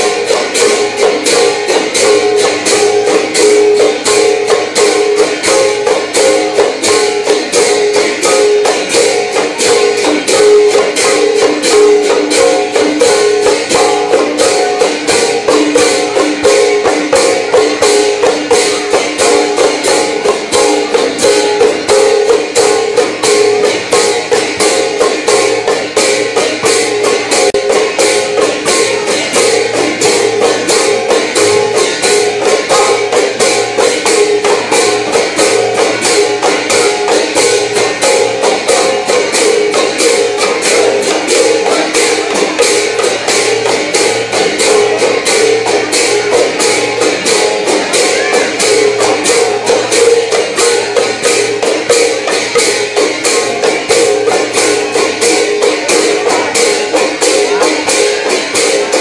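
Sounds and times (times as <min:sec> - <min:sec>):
barrel drums playing fast rhythm: 0:00.0 - 0:59.0
jingling cymbal clashes: 0:00.0 - 0:59.0.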